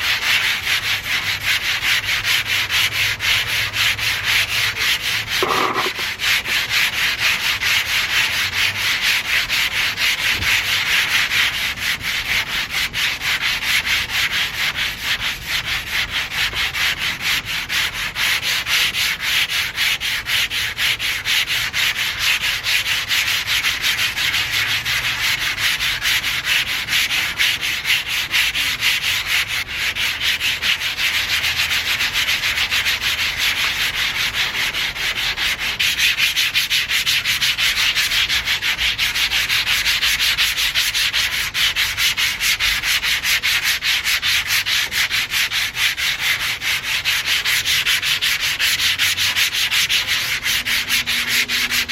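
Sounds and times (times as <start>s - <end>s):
sandpaper scrubbing paint: 0.0s - 51.9s.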